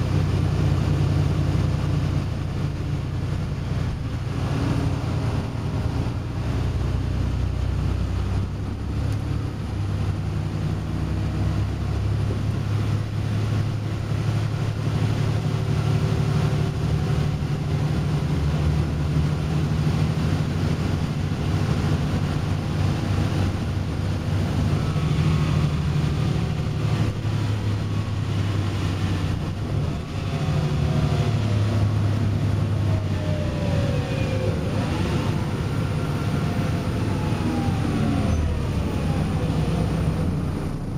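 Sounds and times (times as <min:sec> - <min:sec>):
bus engine droning: 0:00.0 - 0:40.9
road noise: 0:00.0 - 0:40.9.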